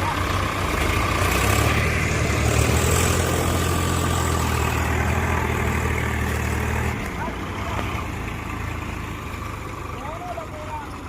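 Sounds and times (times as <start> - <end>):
diesel engine humming: 0.0 - 11.0.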